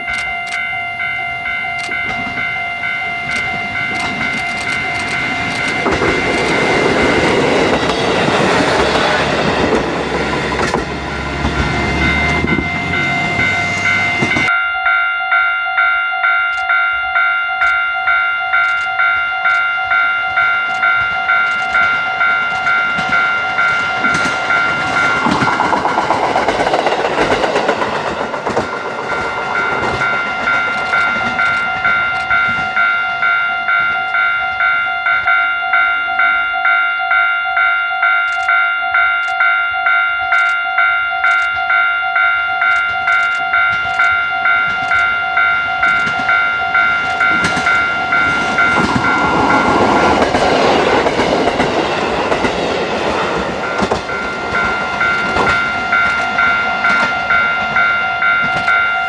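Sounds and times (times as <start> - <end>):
diesel railcar passing: 0.0 - 59.0
level crossing warning bell: 0.0 - 59.0.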